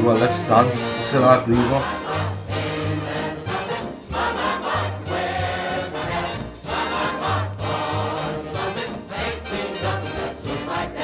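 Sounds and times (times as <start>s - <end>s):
group of people singing: 0.0s - 11.0s
swing band playing: 0.0s - 11.0s.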